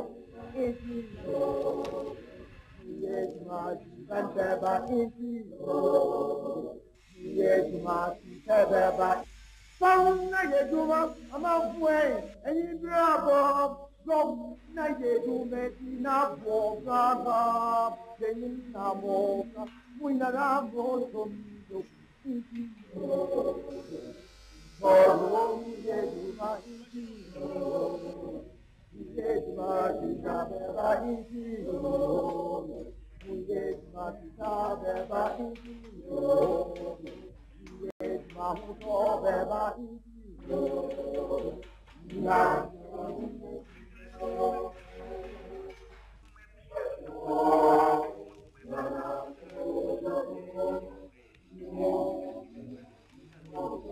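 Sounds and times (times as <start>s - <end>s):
man singing unaccompanied: 0.0s - 45.7s, 46.7s - 52.8s, 53.4s - 53.9s.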